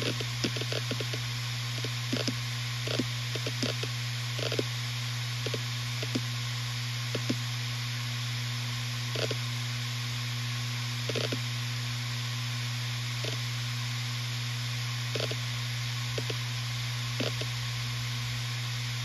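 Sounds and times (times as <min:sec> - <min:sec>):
hard drive spindle hum: 0:00.0 - 0:19.0.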